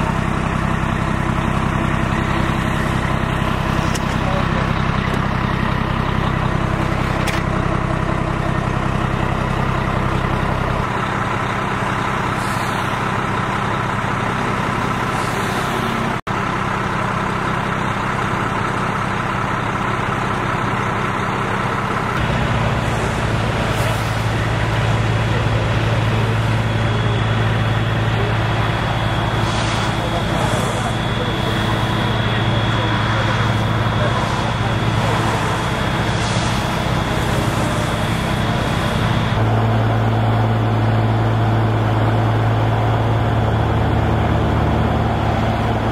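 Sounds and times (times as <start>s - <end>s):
engines idling: 0.0s - 45.9s.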